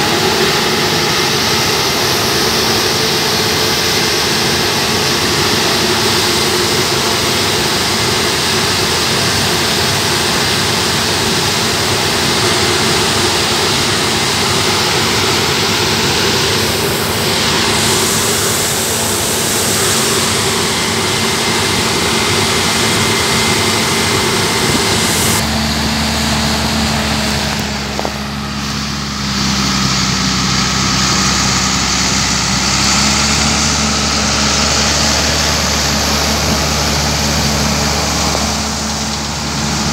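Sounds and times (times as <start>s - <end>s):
combine harvester running: 0.0s - 39.9s
tractor diesel engine hum: 0.0s - 39.9s.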